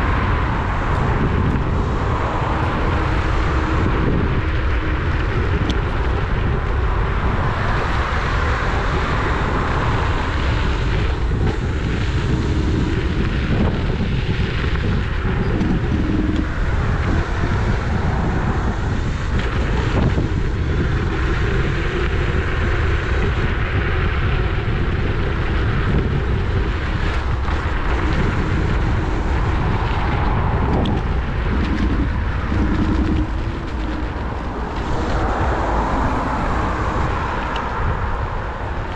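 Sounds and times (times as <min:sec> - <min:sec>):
road rumble: 0:00.0 - 0:38.9
wind rushing on microphone: 0:00.0 - 0:38.9.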